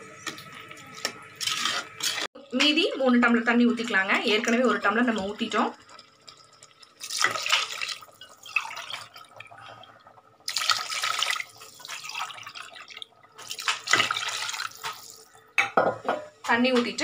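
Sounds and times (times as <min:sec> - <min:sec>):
water pouring and splashing: 0:00.3 - 0:02.6, 0:03.8 - 0:15.4.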